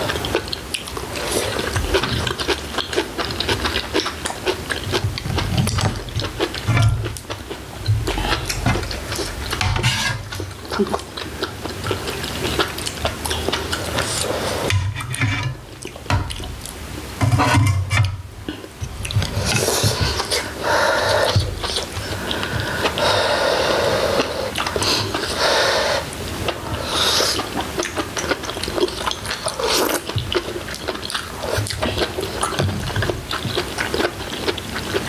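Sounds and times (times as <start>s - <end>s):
chewing: 0.0s - 14.7s, 15.5s - 16.8s, 18.5s - 25.5s, 26.4s - 35.0s.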